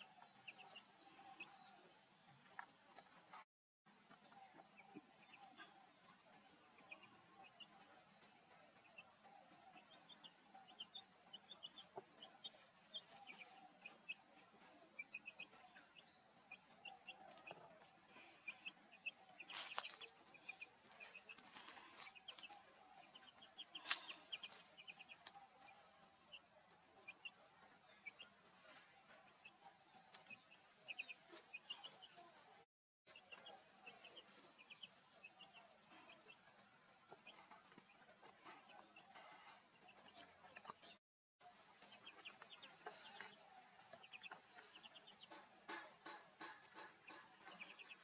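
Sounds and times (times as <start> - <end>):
birds chirping: 0.0 - 3.4, 4.0 - 48.0.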